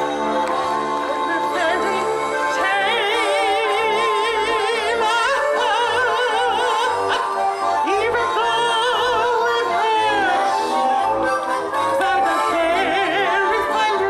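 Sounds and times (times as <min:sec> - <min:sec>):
accordion chords: 0:00.0 - 0:14.0
woman singing with vibrato: 0:01.0 - 0:11.0, 0:11.9 - 0:14.0.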